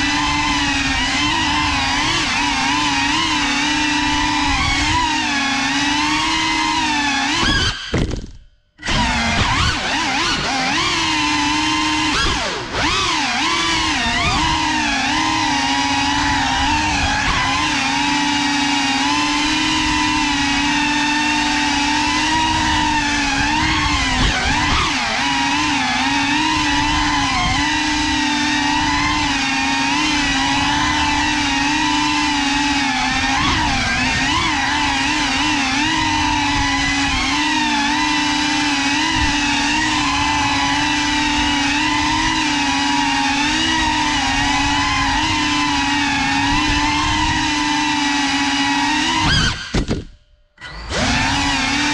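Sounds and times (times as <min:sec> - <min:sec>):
drone propellers whining: 0:00.0 - 0:51.9.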